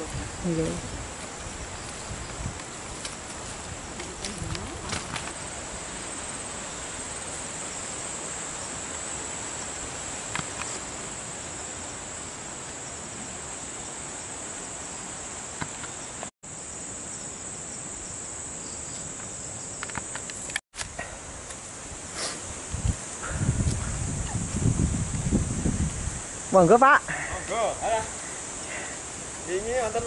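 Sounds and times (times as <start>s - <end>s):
background hiss: 0.0s - 30.0s
insects droning: 0.0s - 30.0s.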